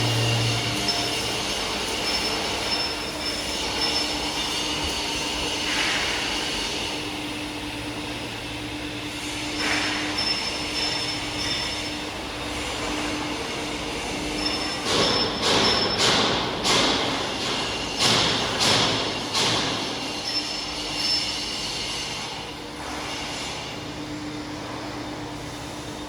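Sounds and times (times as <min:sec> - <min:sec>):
steady mechanical furnace noise: 0:00.0 - 0:26.0.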